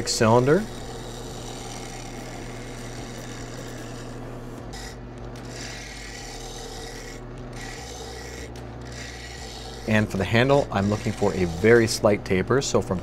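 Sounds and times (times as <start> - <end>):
gouge shaving spinning wood: 0.0 - 13.0
lathe humming: 0.0 - 13.0.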